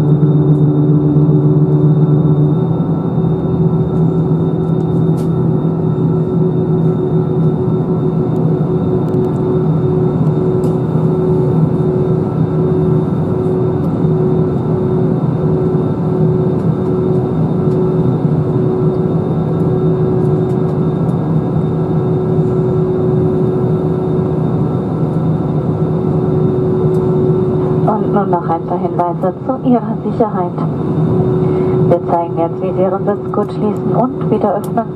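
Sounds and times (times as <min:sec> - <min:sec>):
jet engines droning: 0:00.0 - 0:34.9
steady cabin hum: 0:00.0 - 0:34.9.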